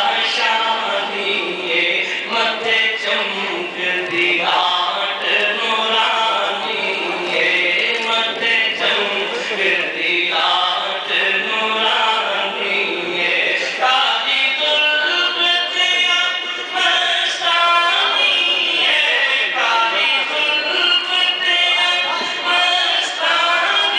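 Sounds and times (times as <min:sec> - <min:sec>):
man chanting into a microphone: 0:00.0 - 0:23.9.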